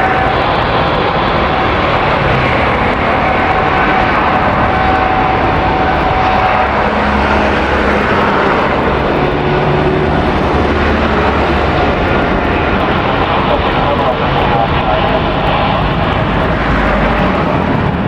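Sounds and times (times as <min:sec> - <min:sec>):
jet engines at takeoff power: 0:00.0 - 0:18.0.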